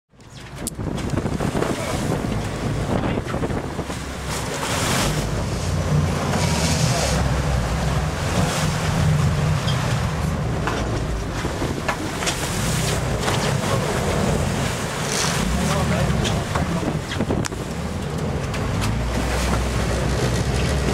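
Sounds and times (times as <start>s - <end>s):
sea water rushing and splashing: 0.2s - 20.9s
boat engine running: 0.3s - 20.9s
wind buffeting microphone: 0.4s - 20.9s.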